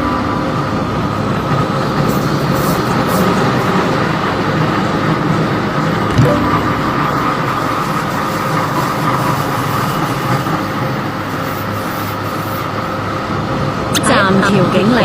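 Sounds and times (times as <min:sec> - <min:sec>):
train whine: 0:00.0 - 0:15.0
wheels rumbling on rail: 0:00.0 - 0:15.0.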